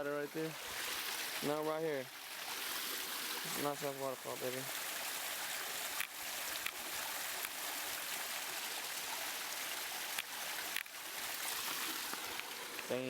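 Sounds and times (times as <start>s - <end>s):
small waterfall into stream: 0.0s - 13.0s.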